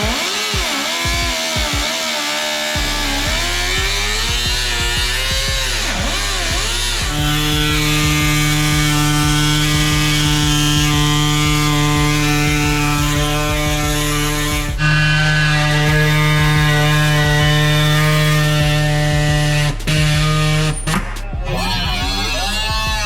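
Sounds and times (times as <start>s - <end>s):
angle grinder grinding metal: 0.0s - 23.0s.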